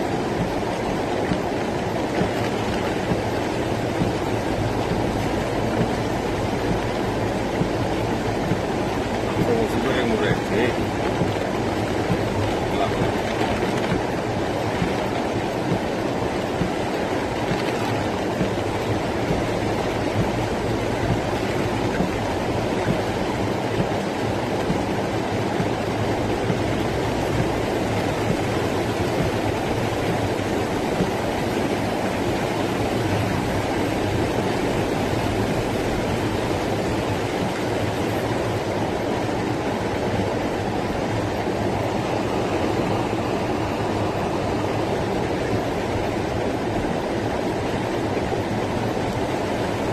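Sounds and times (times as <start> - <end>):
rainwater rushing: 0.0 - 49.9.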